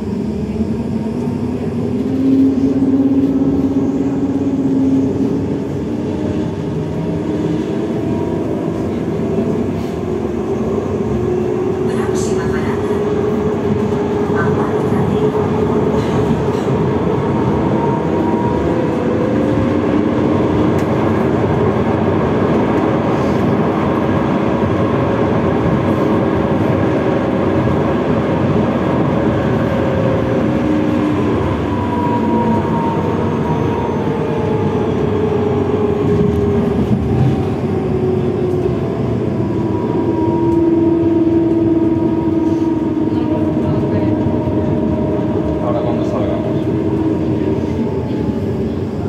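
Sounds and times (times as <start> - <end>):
tram wheels rumbling on rail: 0.0 - 49.0.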